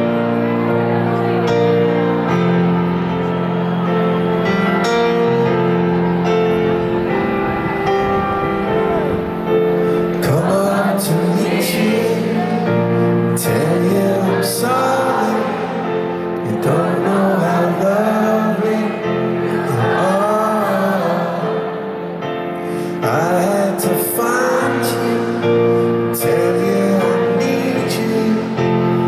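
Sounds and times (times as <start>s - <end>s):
crowd cheering and calling out: 0.0s - 29.0s
piano playing slow chords: 0.0s - 29.0s.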